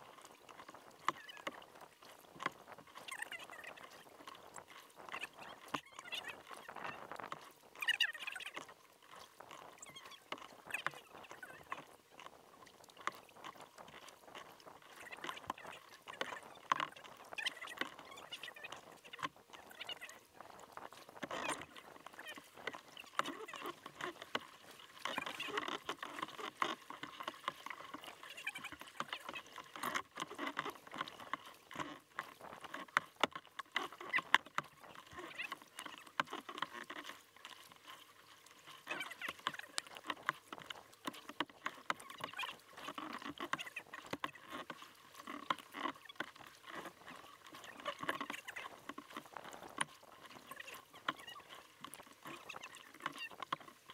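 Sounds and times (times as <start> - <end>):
paddle drips and splashes: 0.0 - 53.9
water lapping against hull: 0.0 - 53.9.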